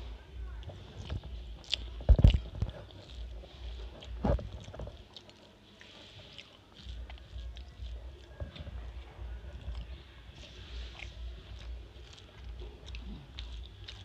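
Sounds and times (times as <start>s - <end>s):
fingers mixing rice on plate: 0.0s - 14.0s
person chewing: 0.6s - 14.0s.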